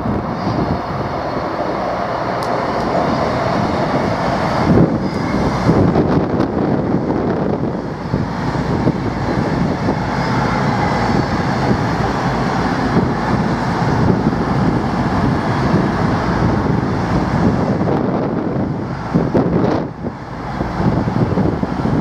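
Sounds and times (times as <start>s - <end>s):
diesel trains rumbling past: 0.0s - 22.0s.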